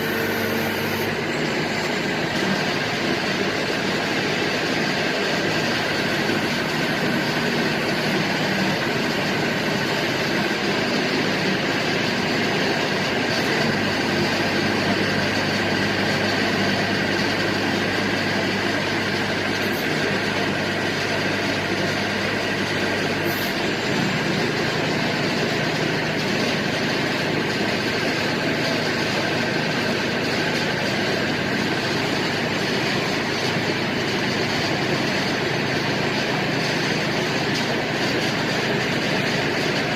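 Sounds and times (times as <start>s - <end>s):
drilling rig engine running: 0.0s - 39.9s.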